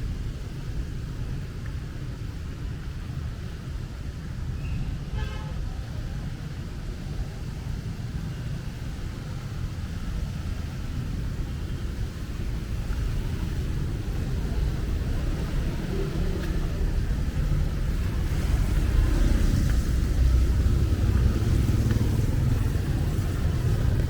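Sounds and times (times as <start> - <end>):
road traffic rumble: 0.0 - 24.0
steady rain: 0.0 - 24.0.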